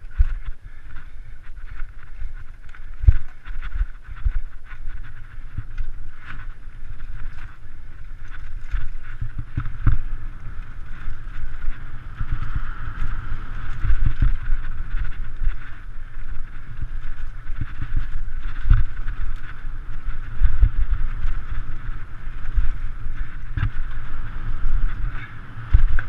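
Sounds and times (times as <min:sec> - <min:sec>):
bike thumps and rattles: 0:00.0 - 0:26.0
bike tyres rolling over dirt: 0:00.0 - 0:26.0
wind buffeting microphone: 0:00.0 - 0:26.0.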